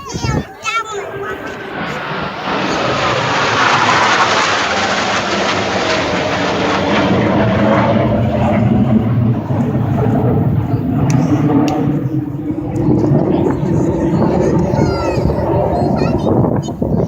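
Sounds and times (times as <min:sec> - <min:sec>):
jet flying past low: 0:00.0 - 0:17.0.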